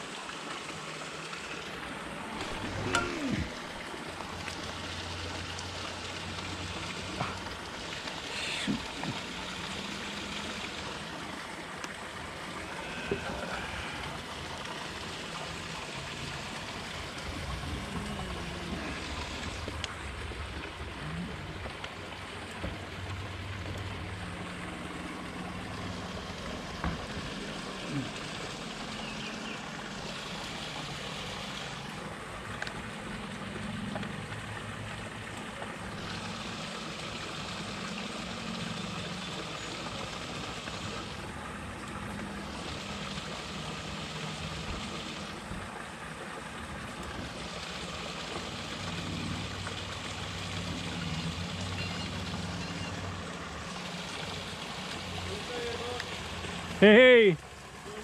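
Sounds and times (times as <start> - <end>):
distant motorboat humming: 0.0 - 58.0.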